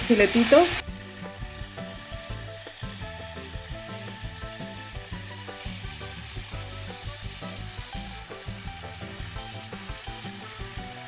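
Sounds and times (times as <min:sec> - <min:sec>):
meat sizzling in a frying pan: 0:00.0 - 0:11.0
background music with beat: 0:00.8 - 0:11.0.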